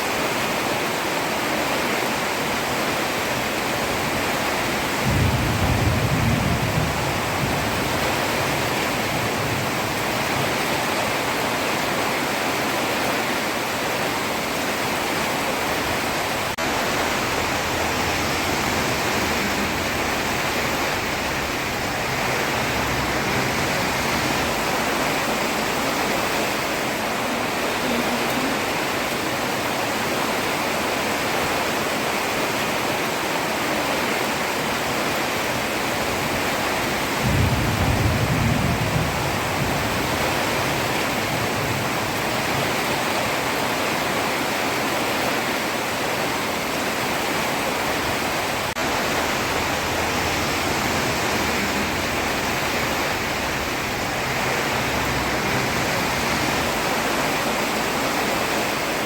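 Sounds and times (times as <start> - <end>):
heavy rain on road: 0.0 - 59.0.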